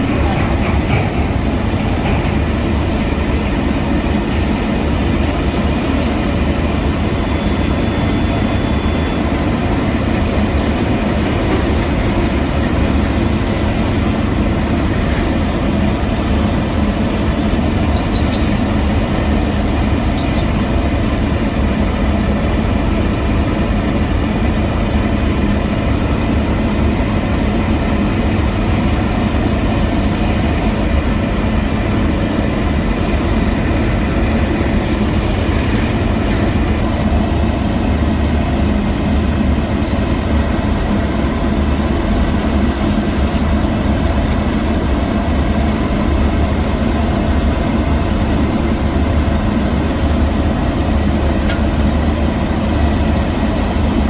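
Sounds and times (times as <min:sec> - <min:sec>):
heavy machinery engine rumble: 0:00.0 - 0:54.0.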